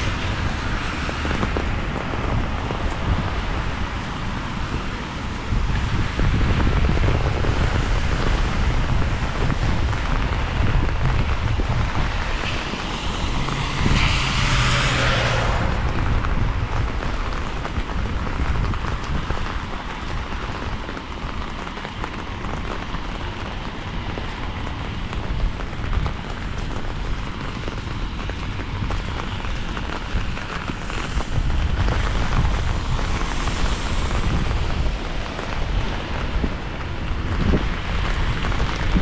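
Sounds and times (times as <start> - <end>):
car tyres hissing on wet road: 0.0 - 39.0
steady rain hiss: 0.0 - 39.0
wind rumbling on microphone: 0.0 - 39.0.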